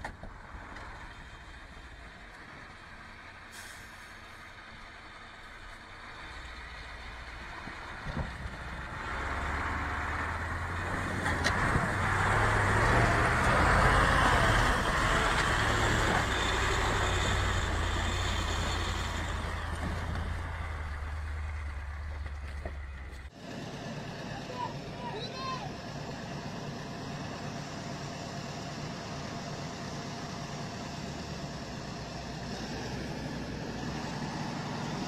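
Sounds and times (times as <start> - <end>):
diesel truck engine under load: 0.0 - 35.0.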